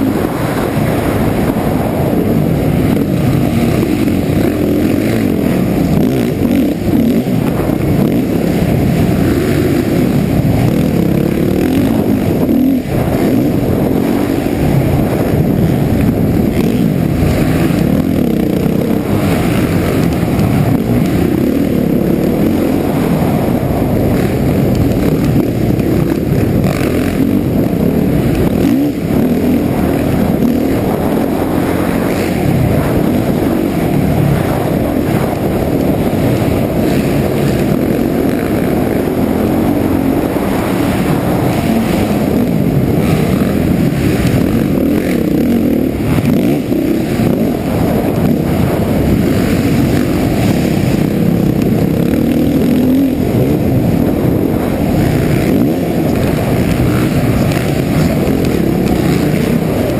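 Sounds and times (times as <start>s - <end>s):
motocross engine revving: 0.0s - 59.9s.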